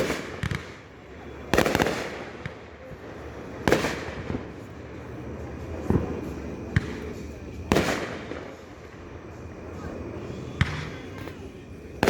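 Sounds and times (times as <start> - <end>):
fireworks bangs: 0.0 - 4.7, 5.5 - 9.1, 9.8 - 12.0.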